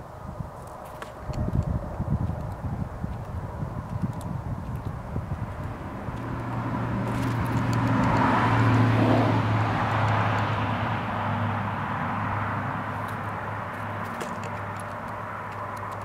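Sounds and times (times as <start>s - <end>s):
vehicle passing on road: 0.0s - 16.0s.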